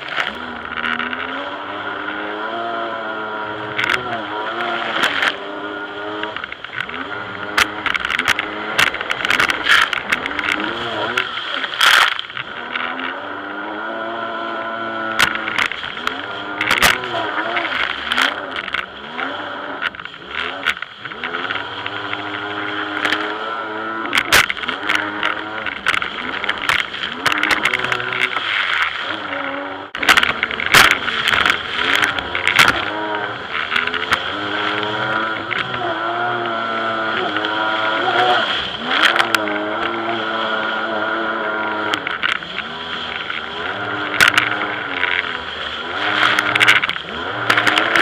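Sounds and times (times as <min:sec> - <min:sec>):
jet ski engine revving: 0:00.0 - 0:48.0.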